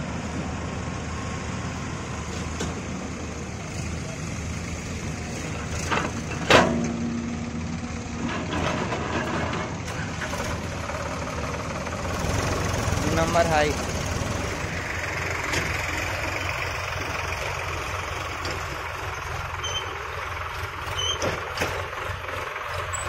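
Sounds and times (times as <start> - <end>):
diesel engines running: 0.0 - 23.0.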